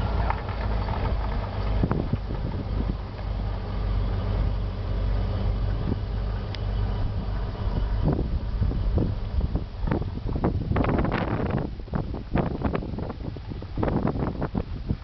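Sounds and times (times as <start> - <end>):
engine idling low hum: 0.0 - 15.0.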